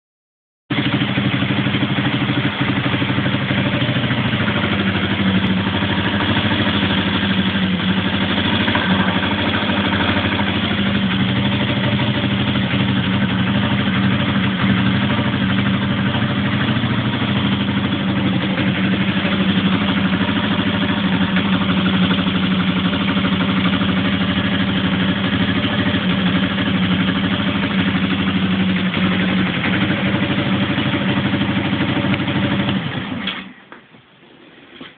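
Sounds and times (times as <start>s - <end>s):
motorcycle engine idling: 0.7s - 33.4s.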